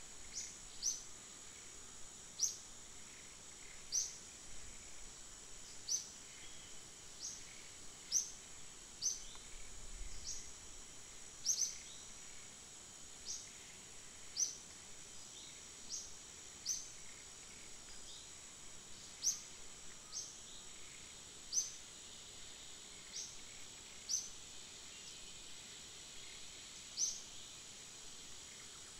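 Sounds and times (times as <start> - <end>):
high insect drone: 0.0 - 28.9.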